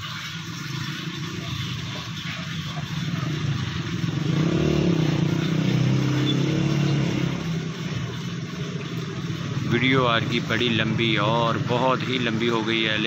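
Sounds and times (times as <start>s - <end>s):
vehicle engine passing: 0.2s - 13.0s.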